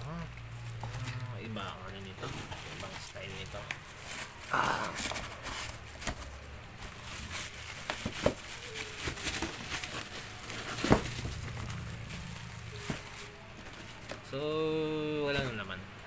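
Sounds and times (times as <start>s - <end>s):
packaging crinkling: 0.0s - 14.5s.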